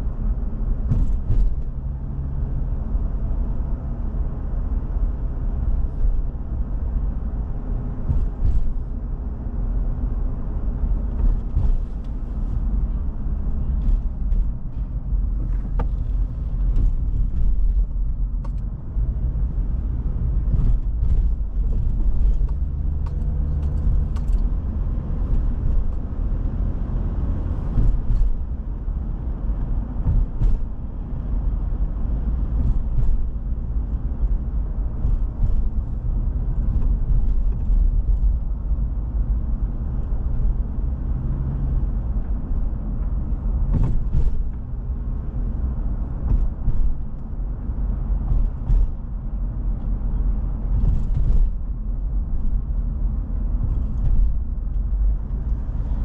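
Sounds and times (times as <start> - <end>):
car rumble while driving: 0.0 - 56.0.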